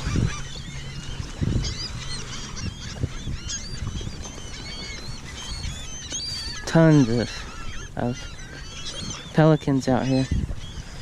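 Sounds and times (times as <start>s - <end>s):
flock of gulls calling: 0.0s - 11.0s.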